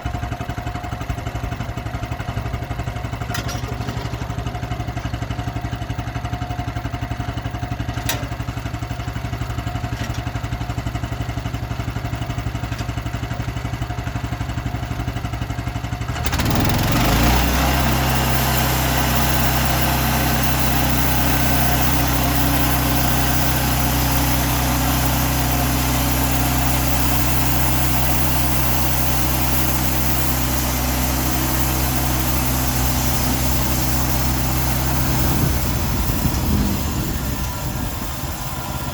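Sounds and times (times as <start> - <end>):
gasoline engine idling and revving: 0.0 - 38.9.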